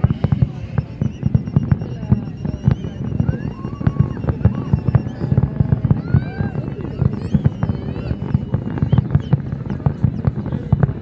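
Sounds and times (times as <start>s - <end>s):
fireworks booming and banging: 0.0s - 11.0s.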